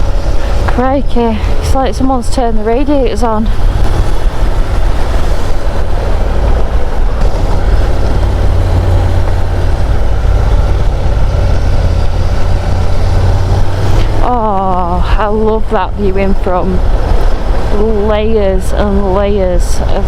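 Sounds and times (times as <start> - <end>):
motorcycle engine rumble: 0.0 - 20.0
wind rush on microphone: 0.0 - 20.0.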